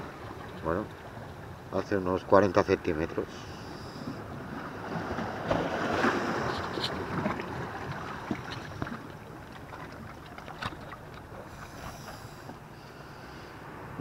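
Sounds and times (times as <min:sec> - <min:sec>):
sea wash: 0:00.0 - 0:14.0.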